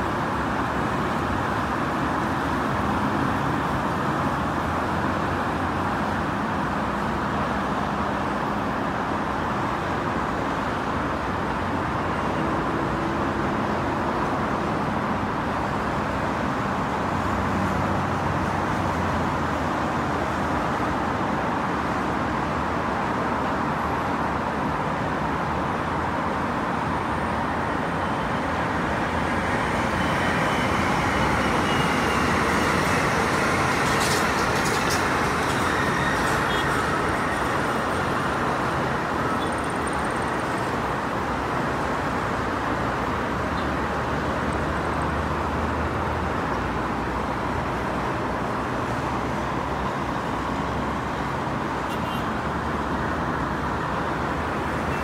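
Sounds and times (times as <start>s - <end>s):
highway traffic noise: 0.0s - 55.0s.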